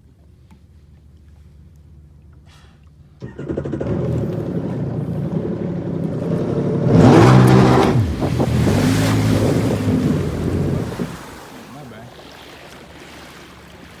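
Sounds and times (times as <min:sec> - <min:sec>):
jet ski engine revving: 0:02.4 - 0:14.0.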